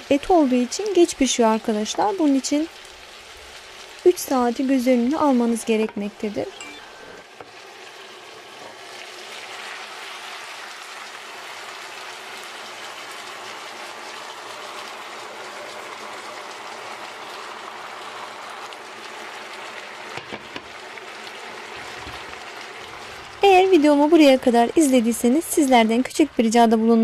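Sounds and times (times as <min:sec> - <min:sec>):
vegetables sizzling in a pot: 0:00.0 - 0:27.0.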